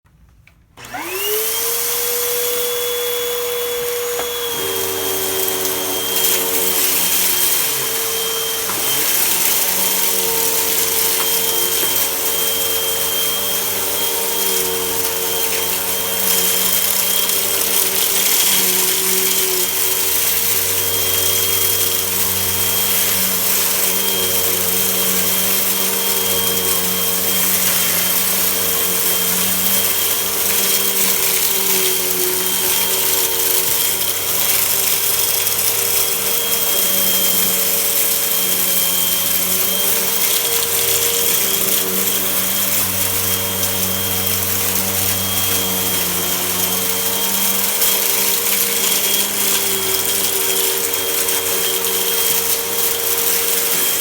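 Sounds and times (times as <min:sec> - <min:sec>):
vacuum cleaner motor whining: 0:00.1 - 0:54.0.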